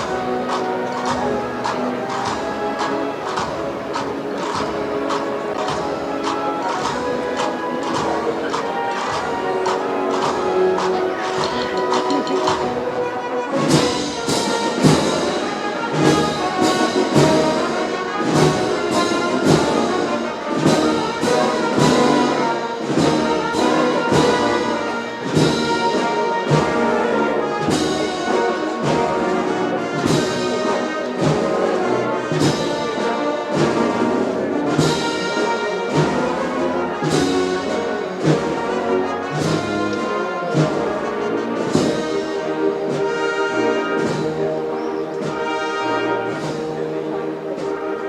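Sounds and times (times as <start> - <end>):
brass band playing a slow march: 0.0 - 48.0
steady drum beats: 0.0 - 48.0.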